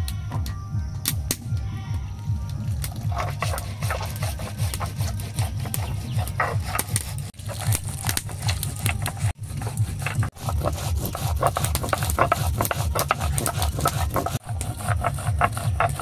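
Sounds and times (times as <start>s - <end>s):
stone grinding on stone: 2.9s - 16.0s.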